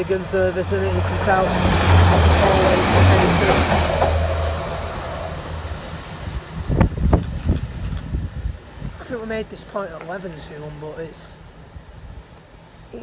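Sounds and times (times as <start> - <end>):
train passing: 0.0 - 12.9.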